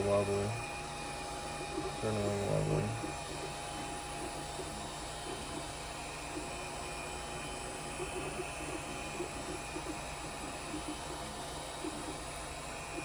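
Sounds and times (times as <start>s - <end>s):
fan hum: 0.0s - 13.0s
stepper motors whirring: 0.0s - 13.0s.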